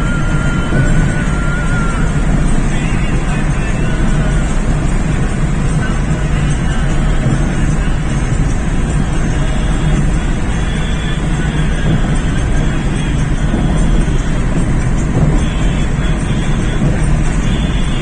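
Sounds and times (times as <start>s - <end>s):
vehicle rumbling in motion: 0.0s - 18.0s.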